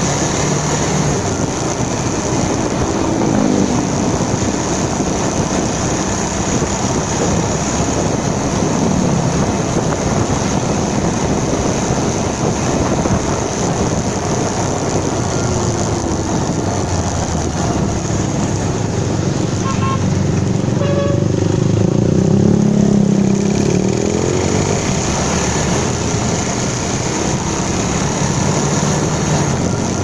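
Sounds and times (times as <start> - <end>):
motorcycle engine: 0.0 - 30.0
wind noise on microphone: 0.0 - 30.0.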